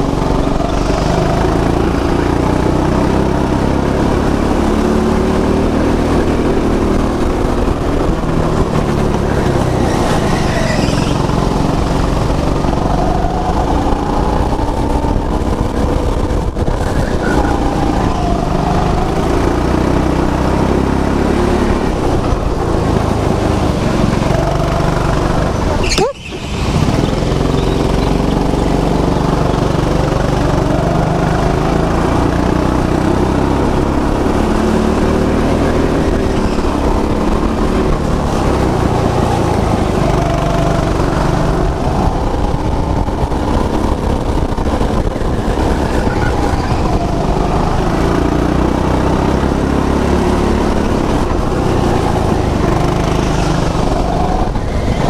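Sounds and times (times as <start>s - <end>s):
go-kart engines revving: 0.0s - 55.0s.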